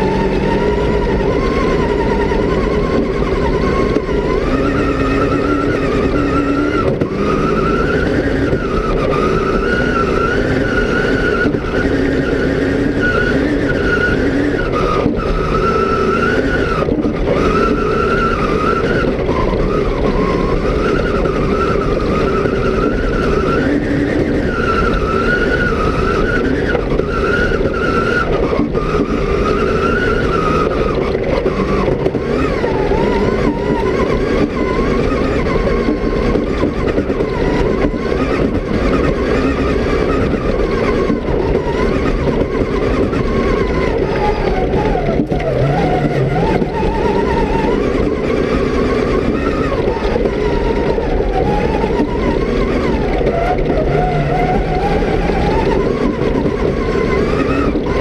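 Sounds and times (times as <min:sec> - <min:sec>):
rally car engine revving: 0:00.0 - 0:58.0
tyres rumbling on dirt: 0:00.0 - 0:58.0.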